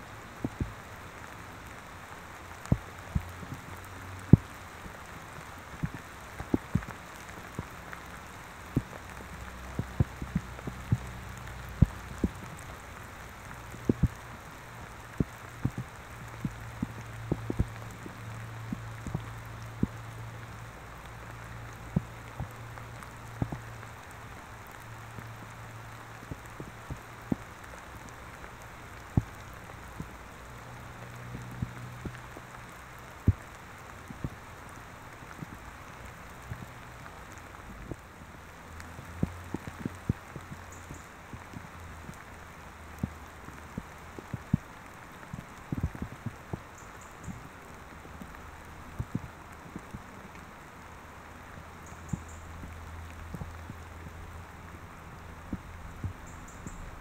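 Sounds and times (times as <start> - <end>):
raindrops hitting microphone: 0.0 - 57.0
steady hiss of rain: 0.0 - 57.0.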